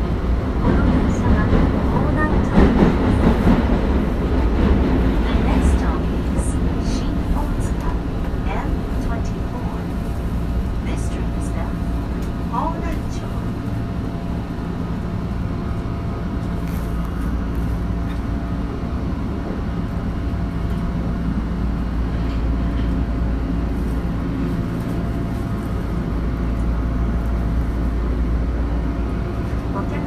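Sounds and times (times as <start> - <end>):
subway train equipment humming: 0.0 - 30.0.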